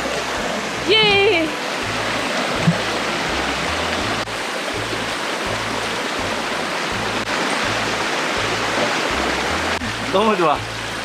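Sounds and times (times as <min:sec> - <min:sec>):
background music: 0:00.0 - 0:11.0
stream rushing over rocks: 0:00.0 - 0:11.0.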